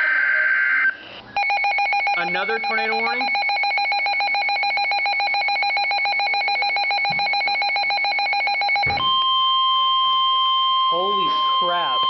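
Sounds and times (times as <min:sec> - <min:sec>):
pulsing electronic alarm beep: 0:00.8 - 0:12.0.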